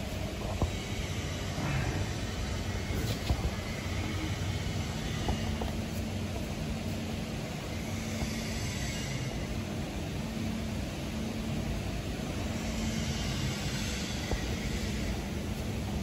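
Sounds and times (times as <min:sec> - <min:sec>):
machine hum and rumble: 0:00.0 - 0:16.0.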